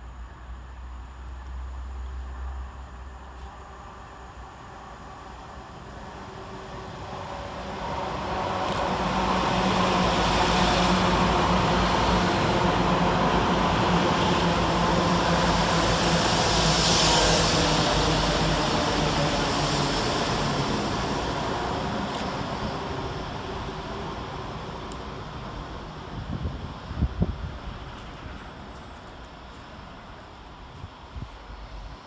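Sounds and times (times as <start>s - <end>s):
diesel train engine hum: 0.0s - 32.0s
wheels rushing on rail: 0.0s - 32.0s.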